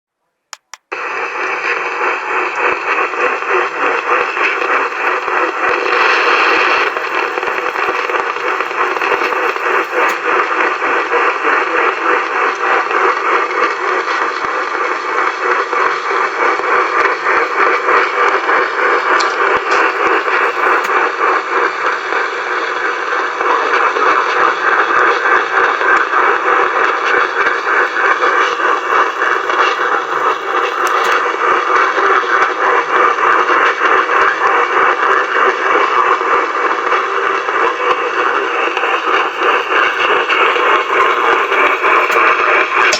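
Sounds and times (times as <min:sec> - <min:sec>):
buried radio station audio: 0:00.6 - 0:23.6, 0:25.6 - 0:31.8, 0:34.5 - 0:42.9
radio static hiss and crackling: 0:00.6 - 0:42.9.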